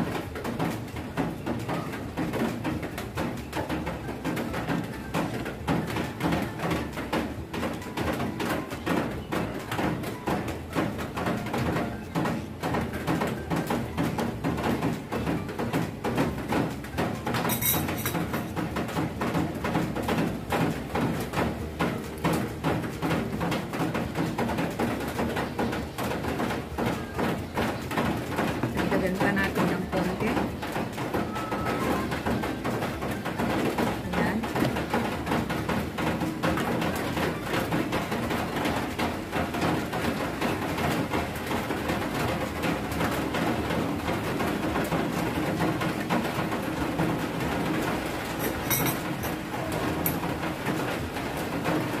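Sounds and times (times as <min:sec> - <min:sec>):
rain drumming on roof: 0:00.0 - 0:52.0.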